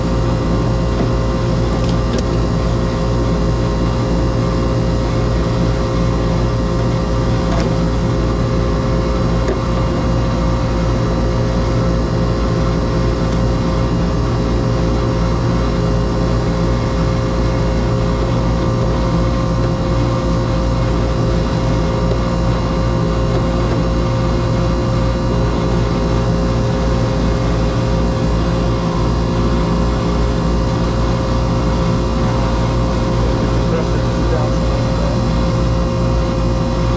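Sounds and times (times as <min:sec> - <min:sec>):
compressor hum: 0:00.0 - 0:36.9
condenser fan rushing: 0:00.0 - 0:36.9.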